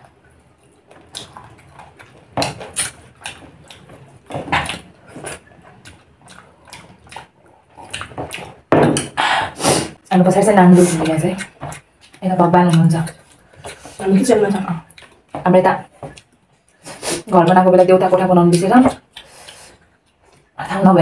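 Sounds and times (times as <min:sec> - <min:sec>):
people chewing: 0:00.0 - 0:20.8.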